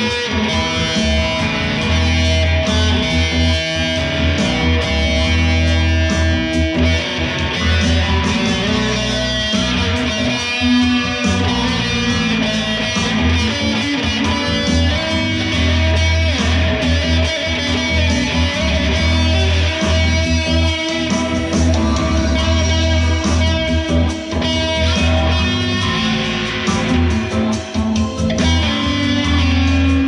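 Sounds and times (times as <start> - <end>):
electric guitar through amp: 0.0 - 30.0
low bass line: 0.0 - 30.0.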